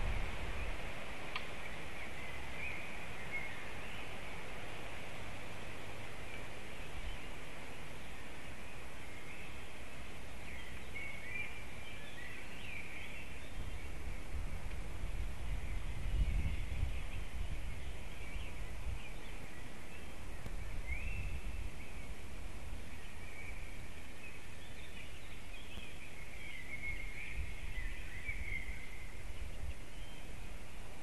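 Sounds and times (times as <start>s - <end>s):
small birds chirping: 0.0s - 31.0s
wind rumble on microphone: 0.0s - 31.0s.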